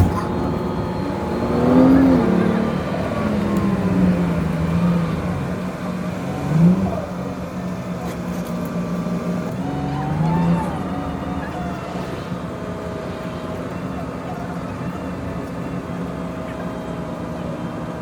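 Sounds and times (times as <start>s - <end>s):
bus engine hum: 0.0s - 18.0s.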